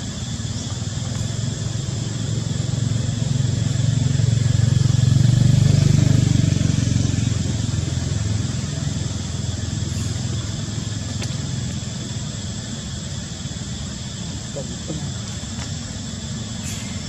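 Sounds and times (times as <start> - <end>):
background hiss: 0.0 - 17.0
low engine hum: 0.0 - 17.0.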